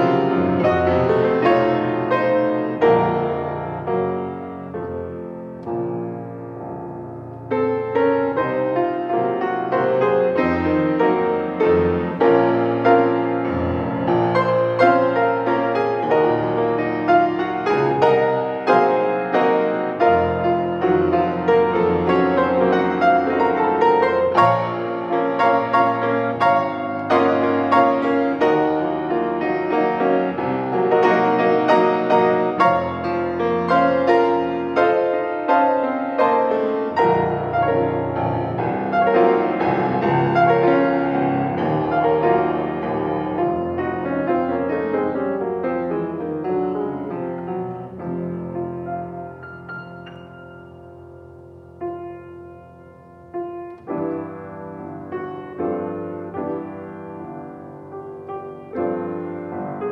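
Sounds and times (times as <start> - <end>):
grand piano playing: 0.0 - 59.9.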